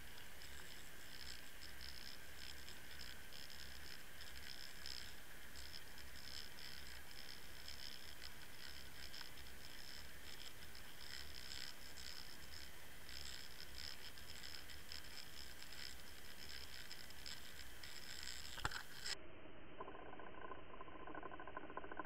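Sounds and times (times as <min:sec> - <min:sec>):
muffled buzzing rattle: 0:00.0 - 0:22.0.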